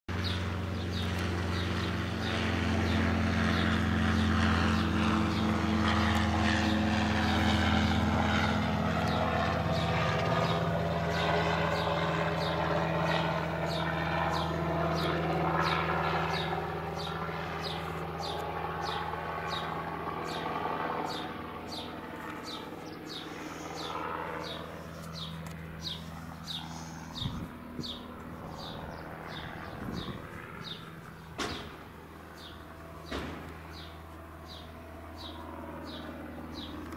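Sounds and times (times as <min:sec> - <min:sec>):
helicopter drone: 0:00.1 - 0:36.9.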